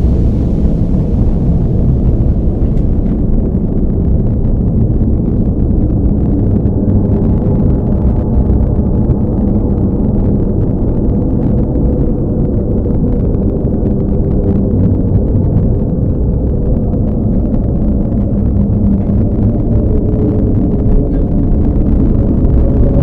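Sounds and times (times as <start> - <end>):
low rumble with humming tones: 0.0 - 23.0.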